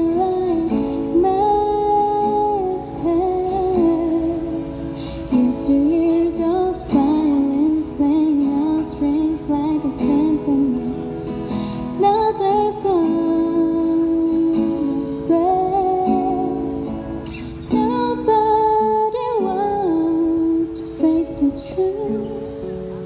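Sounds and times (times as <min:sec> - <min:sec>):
woman singing: 0:00.0 - 0:16.8, 0:17.7 - 0:22.5
acoustic guitar: 0:00.0 - 0:23.0.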